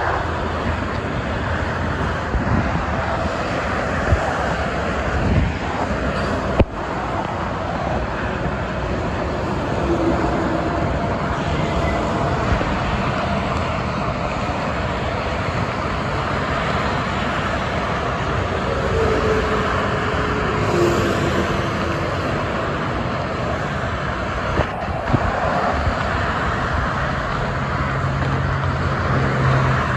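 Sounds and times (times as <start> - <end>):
expressway traffic: 0.0 - 29.9.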